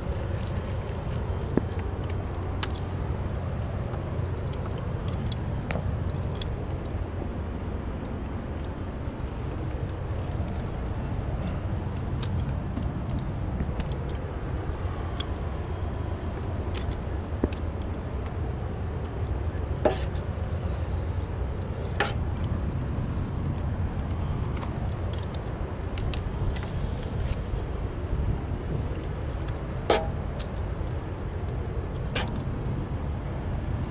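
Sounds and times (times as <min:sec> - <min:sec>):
city traffic rumble: 0:00.0 - 0:33.9
wind: 0:00.0 - 0:33.9.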